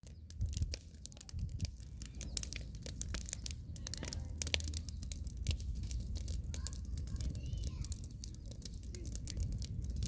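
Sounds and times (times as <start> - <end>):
bonfire crackling and popping: 0.0 - 10.0.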